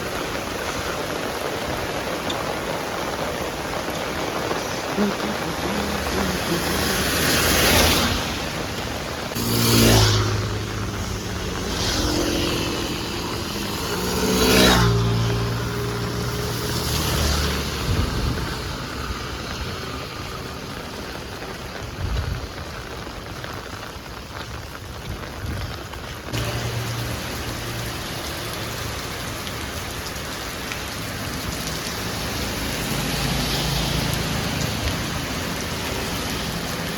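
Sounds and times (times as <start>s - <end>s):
heavy rain falling: 0.0s - 36.9s
vehicles swishing past on wet road: 0.0s - 36.9s.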